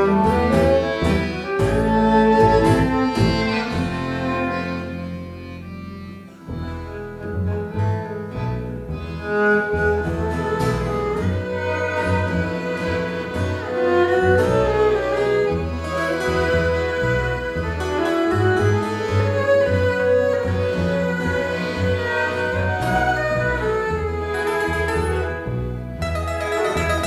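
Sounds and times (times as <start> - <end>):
accordion: 0.0 - 27.0
double bass: 0.0 - 27.0
guitar: 0.0 - 27.0
violins: 0.0 - 27.0.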